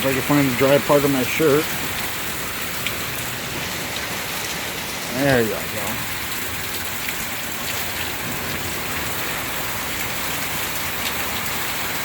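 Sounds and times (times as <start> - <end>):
heavy rain pouring: 0.0 - 12.0
raindrops ticking on surfaces: 0.0 - 12.0.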